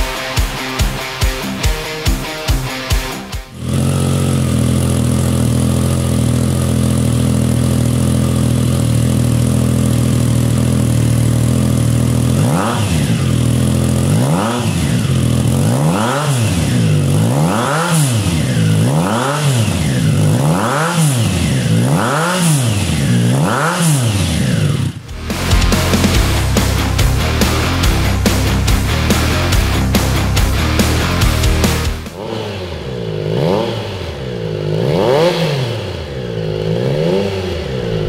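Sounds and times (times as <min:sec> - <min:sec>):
motorcycle engine idling: 0:00.0 - 0:38.0
motorcycle engine revving: 0:00.0 - 0:38.0.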